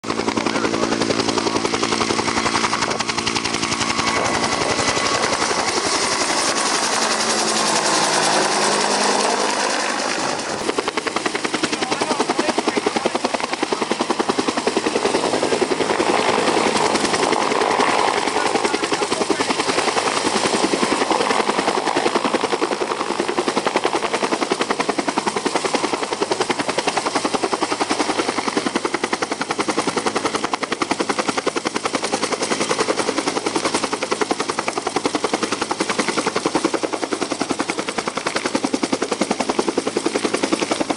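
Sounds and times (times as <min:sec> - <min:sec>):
helicopter rotor chopping: 0:00.0 - 0:40.9.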